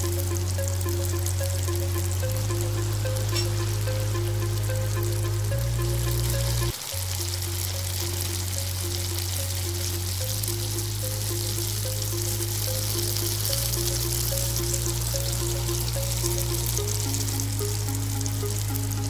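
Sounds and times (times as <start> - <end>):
background music: 0.0 - 19.0
chicken deep-frying in oil: 0.0 - 19.0.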